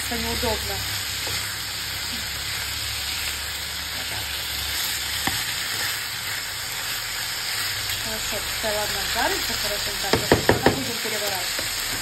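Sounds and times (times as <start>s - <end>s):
meat and onion sizzling in a pan: 0.0s - 12.0s.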